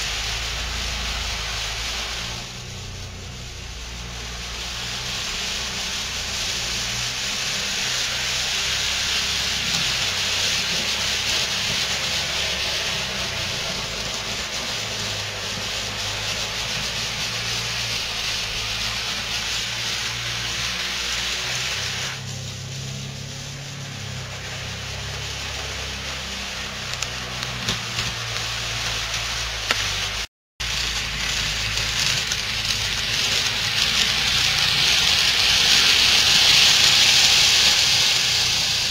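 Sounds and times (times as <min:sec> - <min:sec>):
hiss: 0:00.0 - 0:38.9
model trains whirring on track: 0:00.0 - 0:38.9.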